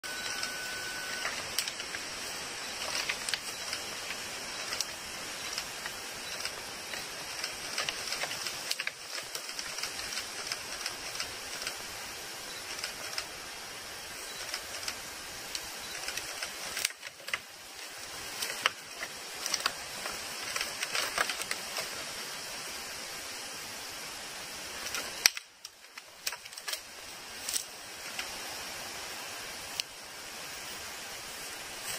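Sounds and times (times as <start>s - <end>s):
steady hiss: 0.0s - 31.9s.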